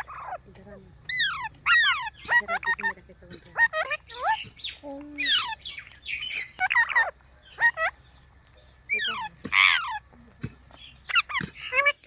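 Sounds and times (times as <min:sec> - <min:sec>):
parrot squawking: 0:00.0 - 0:00.4, 0:01.1 - 0:08.0, 0:08.9 - 0:10.1, 0:10.8 - 0:12.0.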